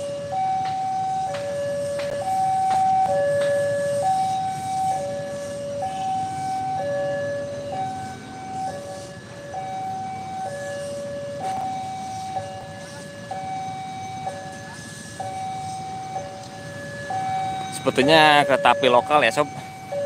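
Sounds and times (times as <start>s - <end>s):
low rumble of traffic: 0.0s - 20.0s
two-tone warning siren: 0.0s - 20.0s.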